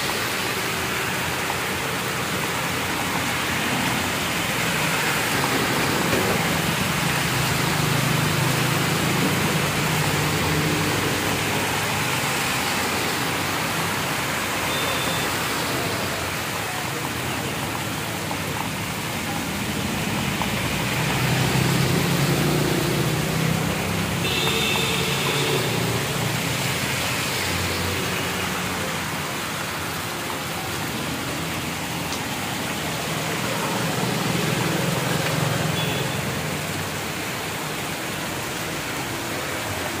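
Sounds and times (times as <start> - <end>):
passing vehicle engines: 0.0 - 14.7, 15.3 - 40.0
heavy rain on road: 0.0 - 40.0.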